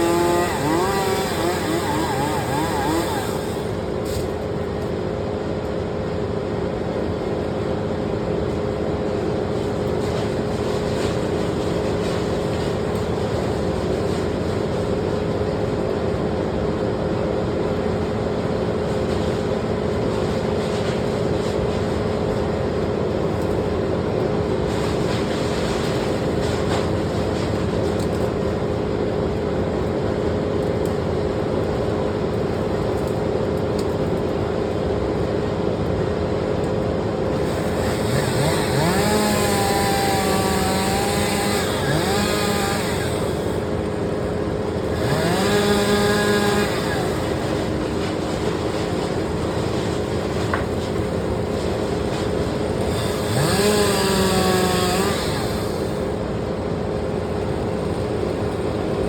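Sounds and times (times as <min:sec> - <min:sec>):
engine humming steadily: 0:00.0 - 0:59.0.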